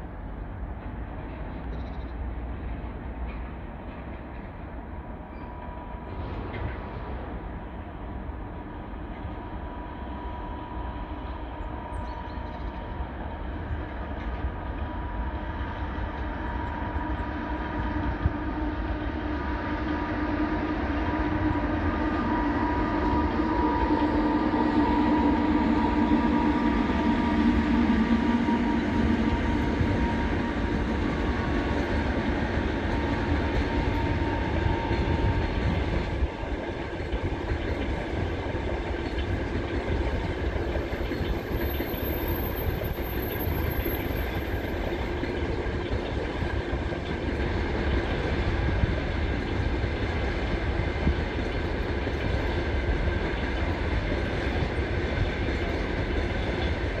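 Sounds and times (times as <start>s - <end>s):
electric locomotive hum: 0.0s - 57.0s
train wheels rumbling on rail: 0.0s - 57.0s.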